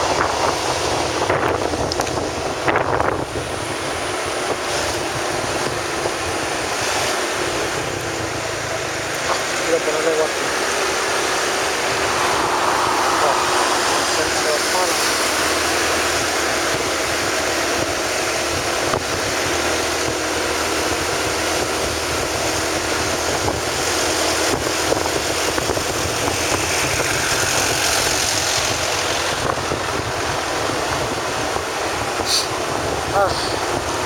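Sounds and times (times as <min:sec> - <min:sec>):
vehicle engine running: 0:00.0 - 0:34.0
wind rushing over microphone: 0:00.0 - 0:34.0.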